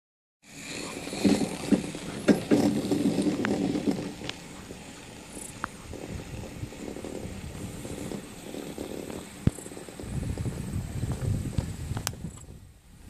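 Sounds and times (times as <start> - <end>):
steady rustle: 0.4 - 12.6
chairlift knocks and rattles: 0.8 - 11.8.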